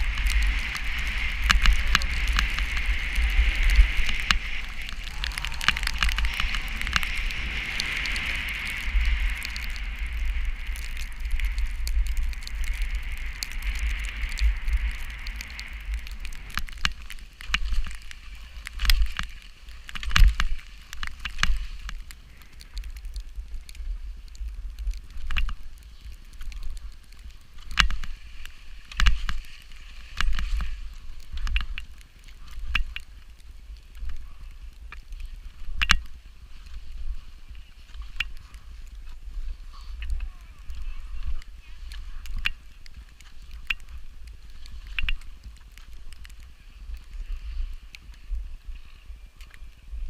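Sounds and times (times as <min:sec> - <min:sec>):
steady hiss: 0:00.0 - 0:50.0
storm wind buffeting microphone: 0:00.0 - 0:50.0.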